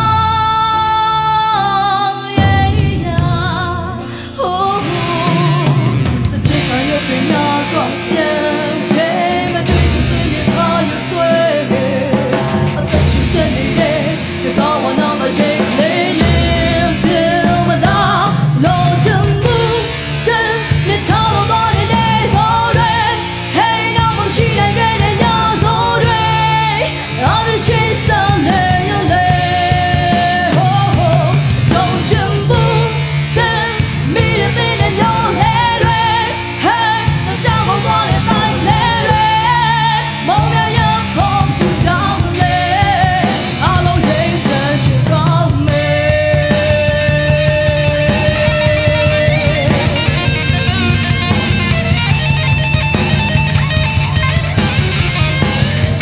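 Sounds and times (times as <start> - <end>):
woman singing: 0.0 - 51.5
live band playing: 0.0 - 56.0.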